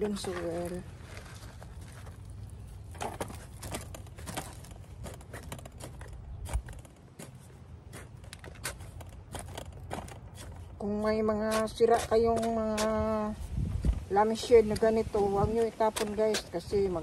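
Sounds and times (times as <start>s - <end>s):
soil and plastic scraping: 0.0s - 17.0s.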